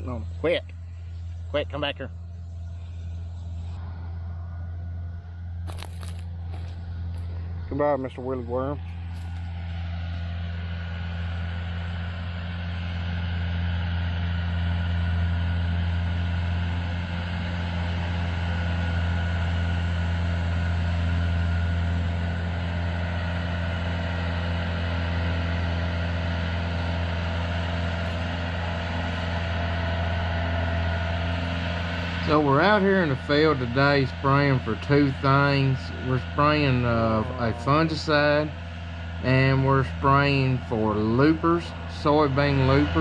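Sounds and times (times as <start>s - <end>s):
crop sprayer engine droning: 0.0s - 43.0s.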